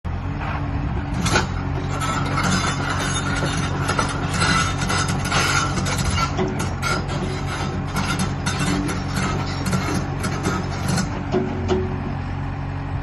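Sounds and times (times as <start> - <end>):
excavator diesel engine running: 0.1 - 13.0
track squeal: 0.4 - 11.2
metallic clanking of tracks: 0.4 - 12.2.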